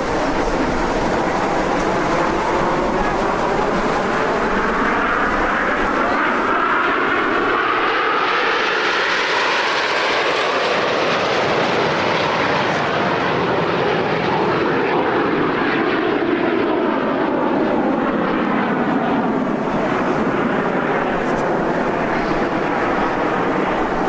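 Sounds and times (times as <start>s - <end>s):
jet engines flying past: 0.0s - 24.0s.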